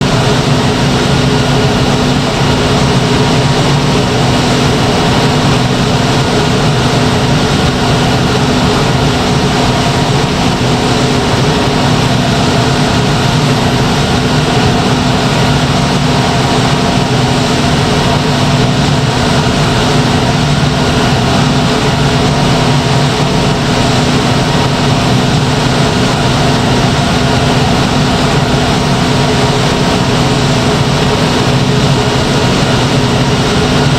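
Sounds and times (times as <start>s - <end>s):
steam turbine running: 0.0s - 33.9s.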